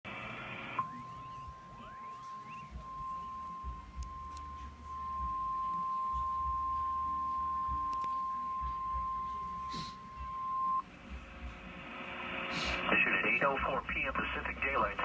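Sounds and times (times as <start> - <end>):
steady warning tone: 0.1 - 15.0.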